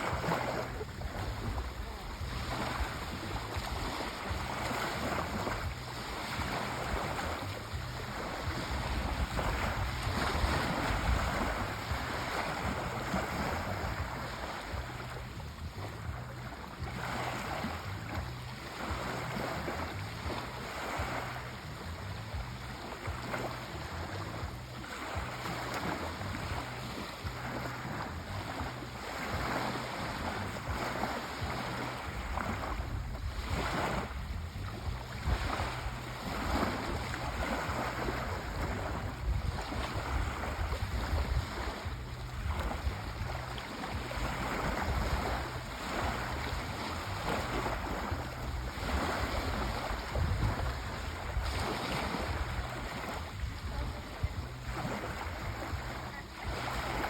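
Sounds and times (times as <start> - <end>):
sea waves washing: 0.0 - 57.0.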